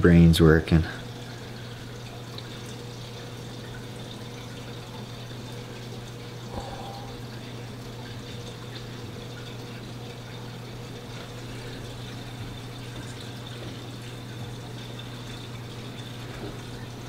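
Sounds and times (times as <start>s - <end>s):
steady low hum: 0.0s - 17.0s
trickle of running water: 0.0s - 17.0s.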